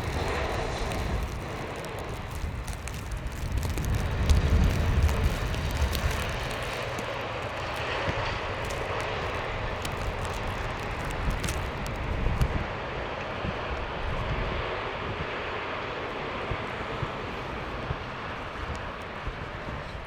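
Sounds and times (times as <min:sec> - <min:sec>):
snow-clearing machine engine droning: 0:00.0 - 0:20.0.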